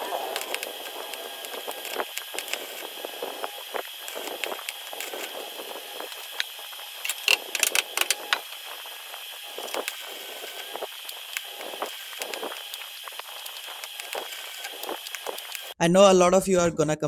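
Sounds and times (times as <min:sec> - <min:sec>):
welding arc crackling and hissing: 0:00.0 - 0:15.8.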